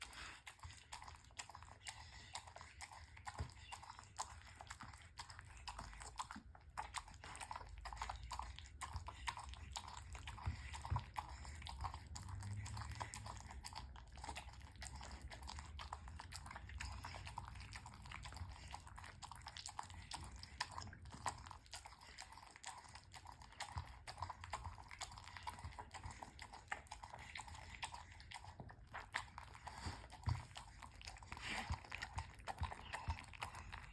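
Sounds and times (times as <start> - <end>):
dog chewing food: 0.0 - 33.9.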